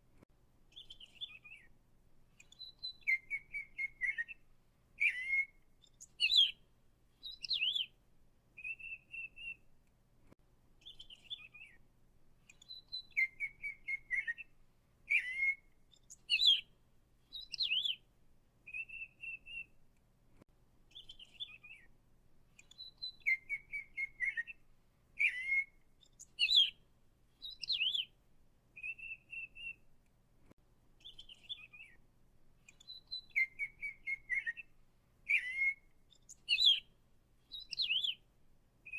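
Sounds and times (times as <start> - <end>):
songbird singing: 0.6 - 19.8, 20.8 - 30.0, 31.0 - 38.9.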